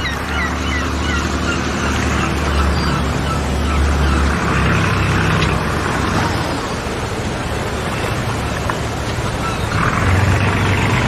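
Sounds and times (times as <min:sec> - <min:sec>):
boat motor running: 0:00.0 - 0:11.0
water noise: 0:00.0 - 0:11.0.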